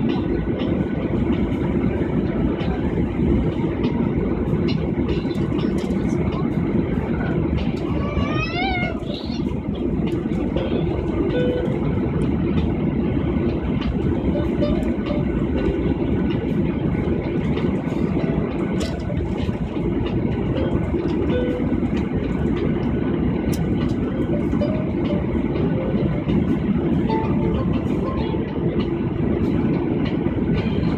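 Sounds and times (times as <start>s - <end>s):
airliner engine rumble in cabin: 0.0s - 30.9s.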